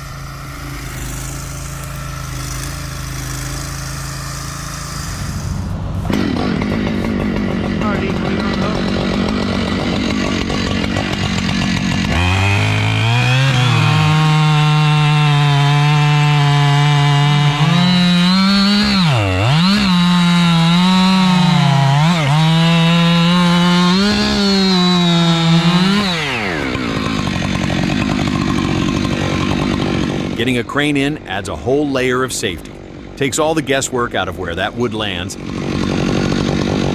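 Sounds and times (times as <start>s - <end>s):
chainsaw at full throttle: 0.0s - 36.9s.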